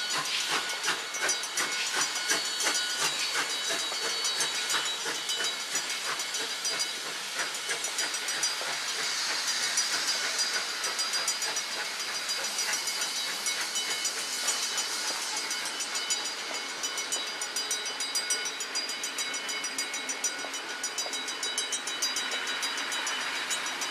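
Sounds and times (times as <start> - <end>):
steam hissing: 0.0 - 23.9
train rolling past: 0.0 - 23.9.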